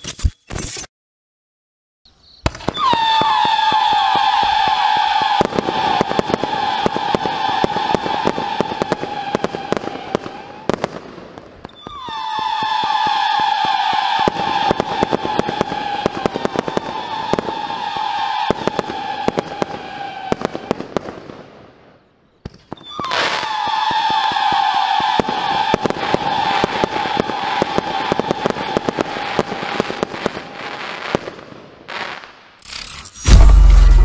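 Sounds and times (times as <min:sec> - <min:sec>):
fireworks whistling: 0:02.2 - 0:21.1, 0:22.4 - 0:34.0
fireworks bangs and cracks: 0:02.4 - 0:32.6.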